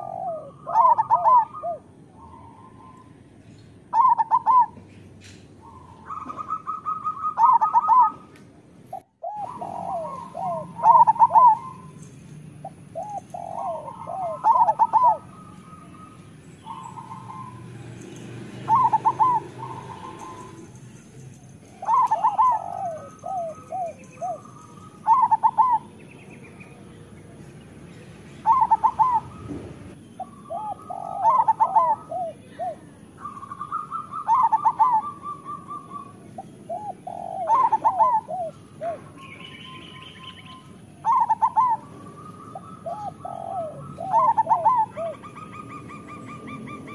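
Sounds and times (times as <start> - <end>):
doves cooing: 0.0 - 26.9, 28.2 - 46.9.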